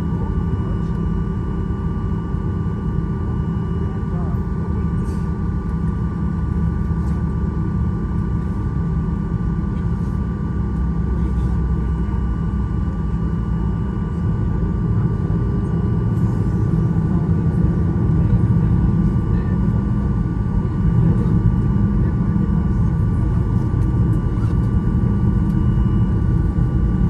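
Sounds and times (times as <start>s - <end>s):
faint steady whine tones: 0.0s - 27.0s
low aircraft cabin hum: 0.0s - 27.0s.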